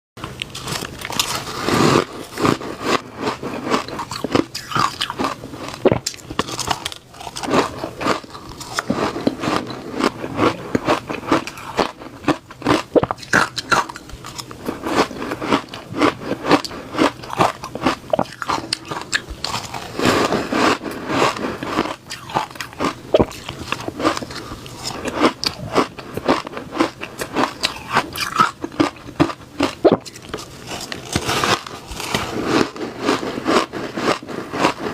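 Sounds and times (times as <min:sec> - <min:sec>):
ice crunching being chewed: 0:00.3 - 0:34.9.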